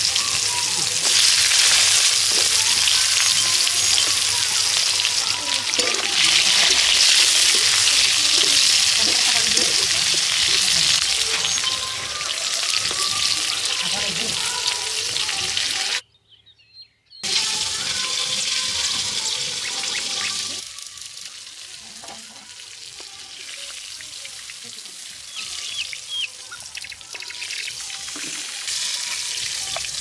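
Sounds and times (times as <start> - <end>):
vegetables sizzling in hot oil: 0.0 - 16.0, 17.2 - 30.0.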